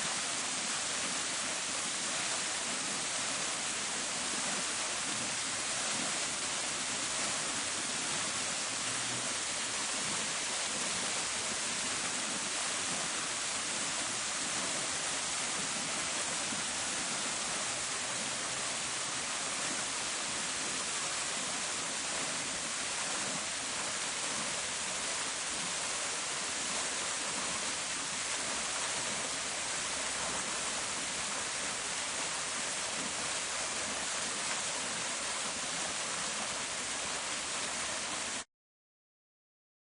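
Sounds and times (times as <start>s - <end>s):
fountain water splashing: 0.0s - 38.4s.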